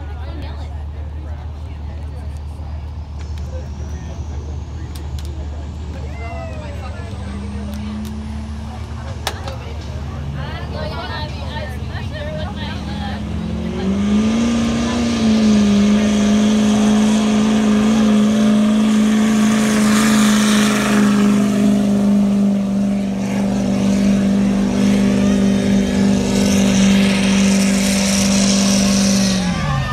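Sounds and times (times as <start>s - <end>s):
diesel engine at high revs: 0.0s - 29.9s.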